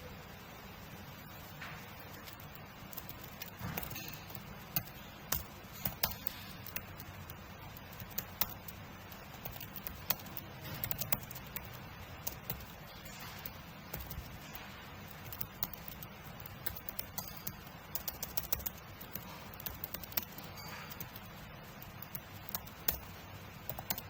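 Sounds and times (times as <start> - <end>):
computer keyboard typing: 1.8 - 24.0.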